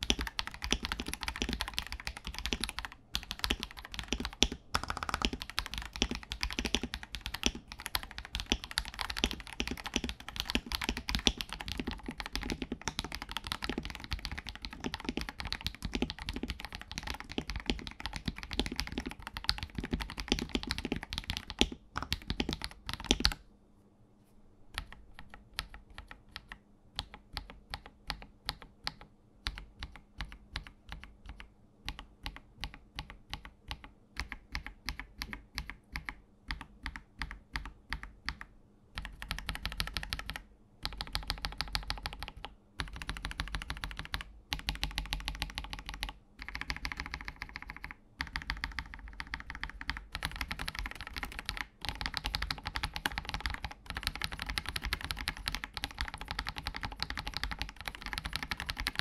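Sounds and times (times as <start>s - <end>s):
mechanical keyboard typing: 0.0s - 23.4s, 24.8s - 59.0s.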